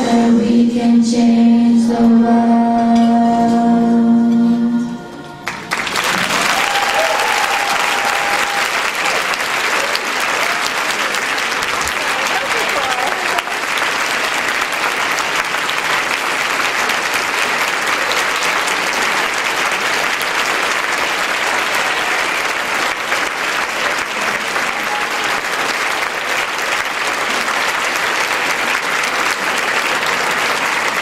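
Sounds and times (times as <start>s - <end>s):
audience applauding: 5.4s - 31.0s.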